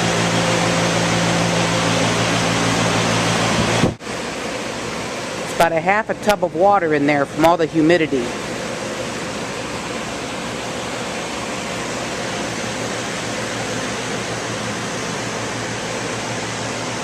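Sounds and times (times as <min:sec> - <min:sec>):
fans rushing noise: 0:00.0 - 0:17.0.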